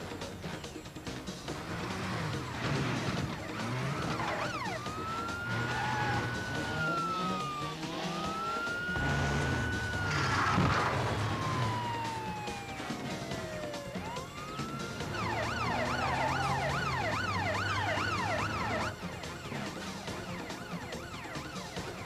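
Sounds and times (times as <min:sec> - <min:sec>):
action background music: 0:00.0 - 0:22.0
police siren wailing: 0:01.5 - 0:22.0.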